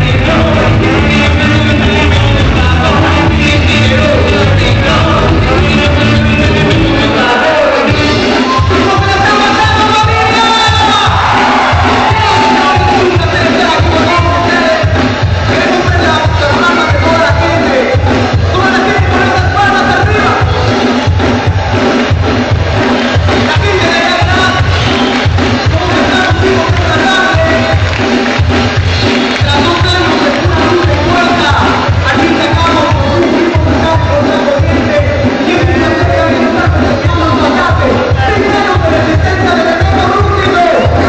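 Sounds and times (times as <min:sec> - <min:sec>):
crowd voices: 0:00.0 - 0:41.0
live ska band playing: 0:00.0 - 0:41.0.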